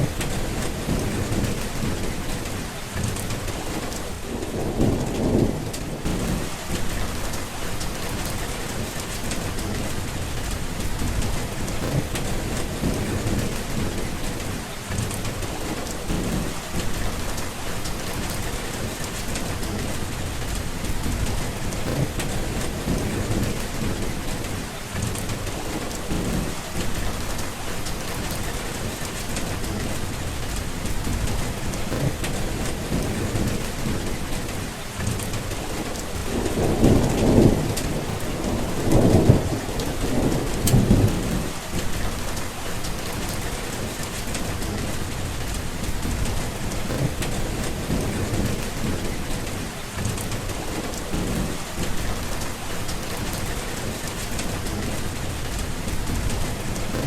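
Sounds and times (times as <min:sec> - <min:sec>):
low rolling thunder: 0:00.0 - 0:57.0
steady rain falling: 0:00.0 - 0:57.0.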